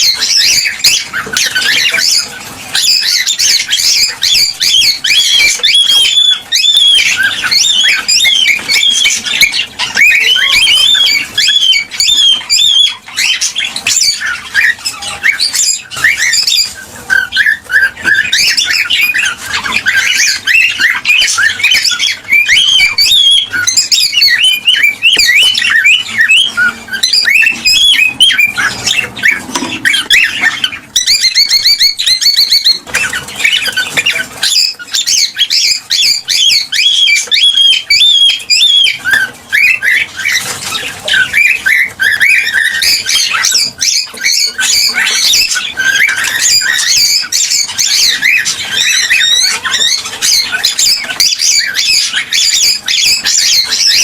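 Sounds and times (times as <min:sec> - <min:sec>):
buzzy bird trill: 0:00.0 - 0:54.0
cockatiels chirping and whistling: 0:00.0 - 0:54.0.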